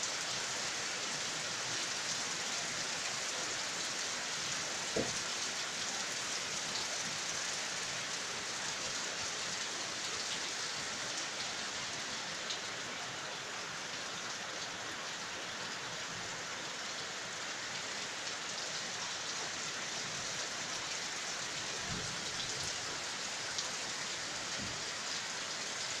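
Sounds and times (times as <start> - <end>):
heavy rain on foliage: 0.0 - 26.0.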